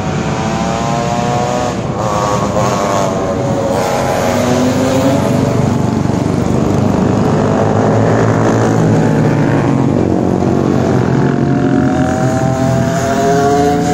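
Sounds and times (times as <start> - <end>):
motorcycles riding past: 0.0 - 13.9.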